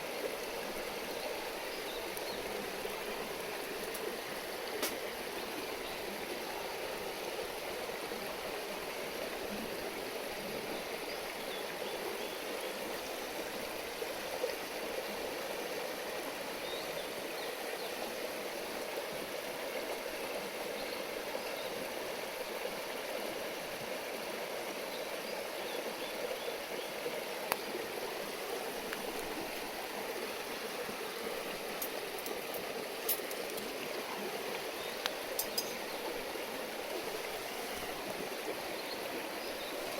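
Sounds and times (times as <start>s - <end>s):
river stream rushing: 0.0s - 39.9s.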